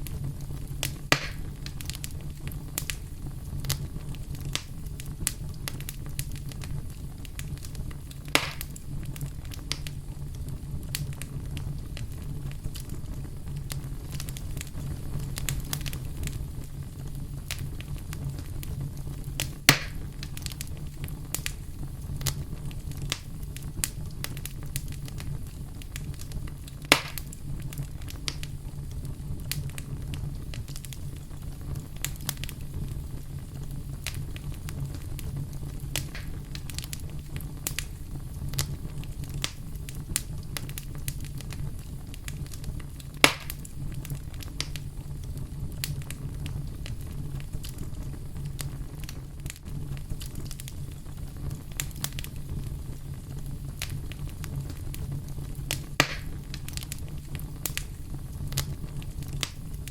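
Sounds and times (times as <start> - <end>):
campfire crackling and popping: 0.0 - 59.9
low steady rumble: 0.0 - 59.9.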